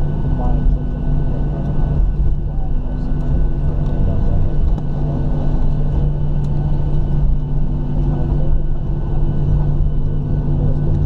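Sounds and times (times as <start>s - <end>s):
airplane cabin rumble: 0.0s - 11.0s
jet engines idling hum: 0.0s - 11.0s.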